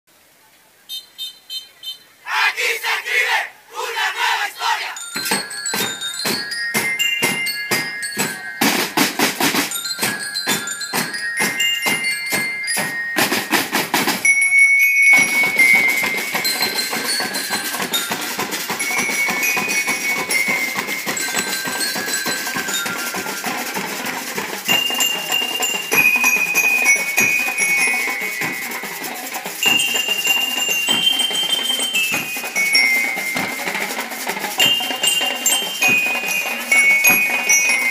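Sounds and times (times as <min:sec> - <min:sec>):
bell lyre melody: 0:04.9 - 0:37.9.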